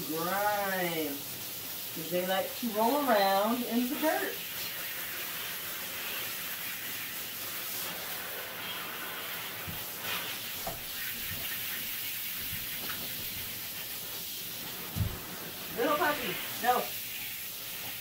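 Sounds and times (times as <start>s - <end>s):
shower sprayer spraying water: 0.0s - 18.0s.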